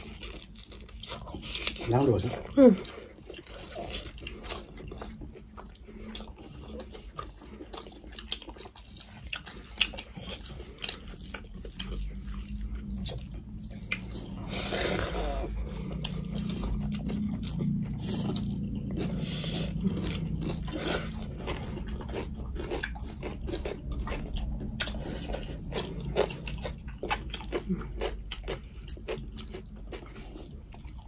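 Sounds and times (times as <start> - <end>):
people chewing and crunching food: 0.0 - 31.0.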